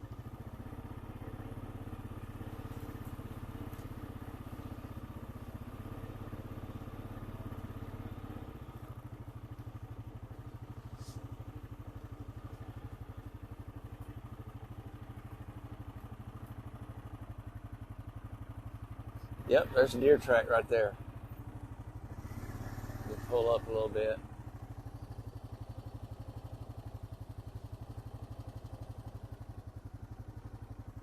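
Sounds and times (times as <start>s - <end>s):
engine running at low speed: 0.0s - 31.0s.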